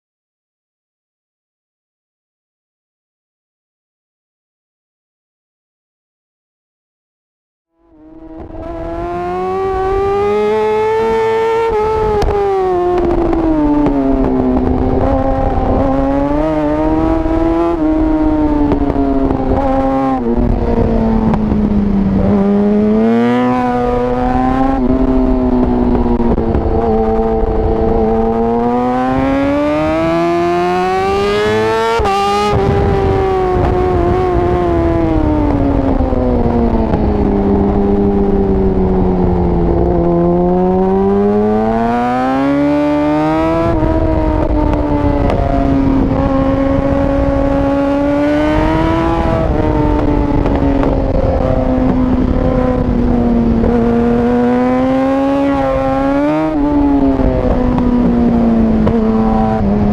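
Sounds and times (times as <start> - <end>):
motorcycle engine at racing pace: 7.8 - 59.9.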